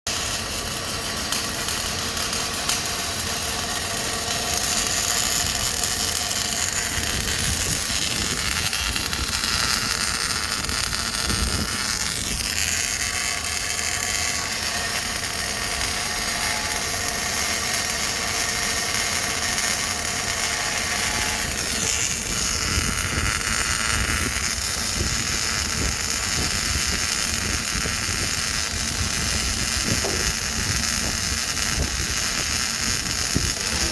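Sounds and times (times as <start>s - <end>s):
welding arc crackling and hissing: 0.1s - 33.9s.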